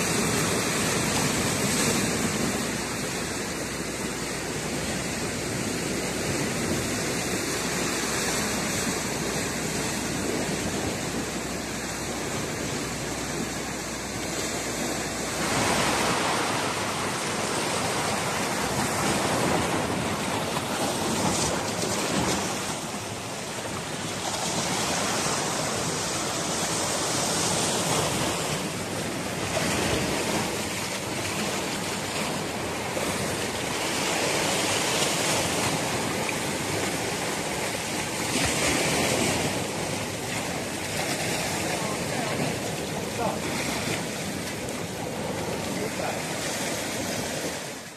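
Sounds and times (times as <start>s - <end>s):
waves washing on rocky shore: 0.0s - 47.9s.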